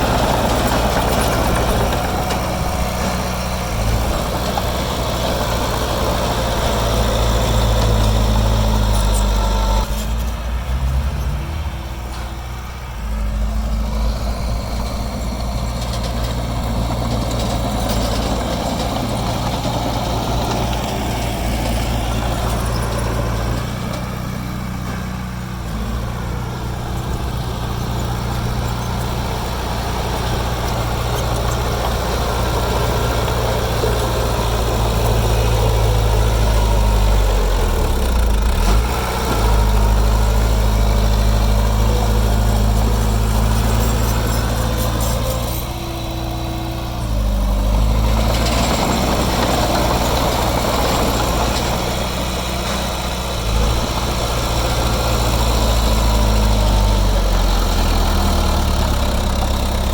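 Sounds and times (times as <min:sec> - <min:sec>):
heavy diesel engine: 0:00.0 - 0:59.9.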